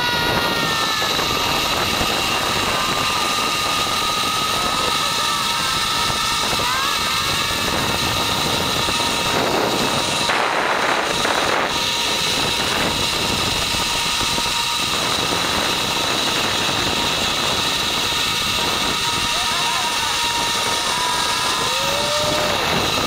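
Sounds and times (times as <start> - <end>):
high whine: 0.0 - 23.0
trolley running along steel cable: 0.0 - 23.0
wind buffeting microphone: 0.0 - 23.0.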